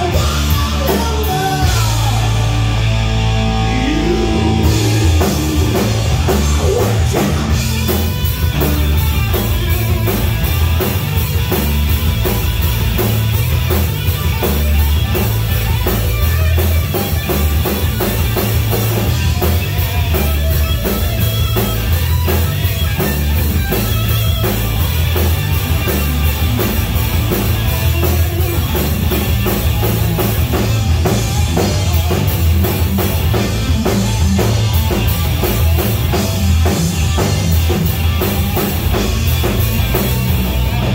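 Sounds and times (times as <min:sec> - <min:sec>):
drum kit beat: 0:00.0 - 0:40.9
electric bass: 0:00.0 - 0:40.9
electric guitar: 0:00.0 - 0:40.9.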